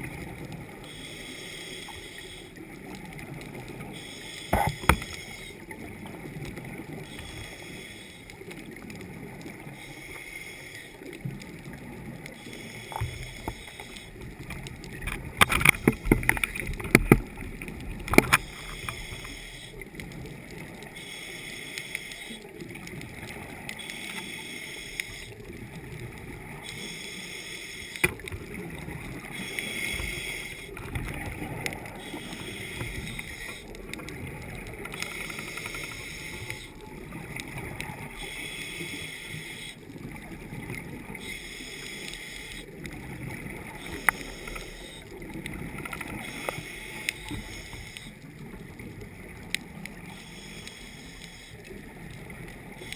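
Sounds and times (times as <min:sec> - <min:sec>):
muffled underwater rush: 0:00.0 - 0:52.9.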